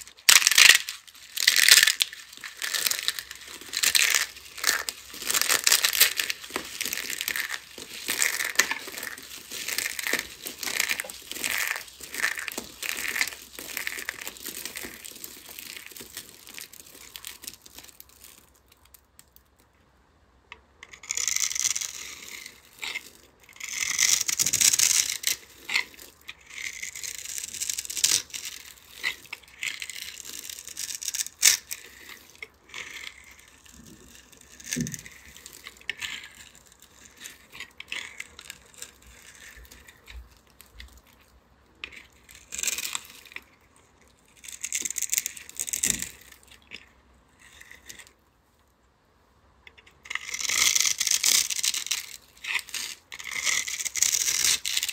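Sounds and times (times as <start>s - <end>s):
knife scraping through soap: 0.5s - 17.1s, 20.8s - 40.4s, 44.3s - 48.2s, 49.7s - 54.9s.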